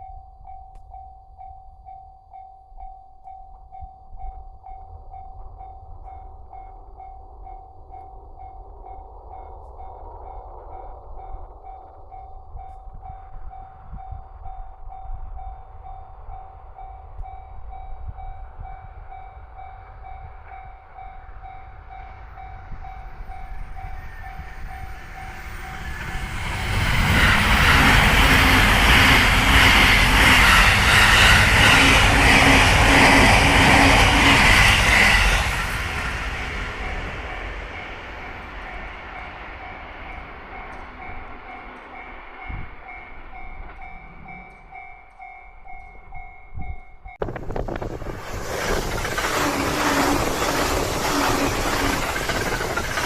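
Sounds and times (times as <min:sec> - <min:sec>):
electric train passing at speed: 0:00.0 - 0:53.0.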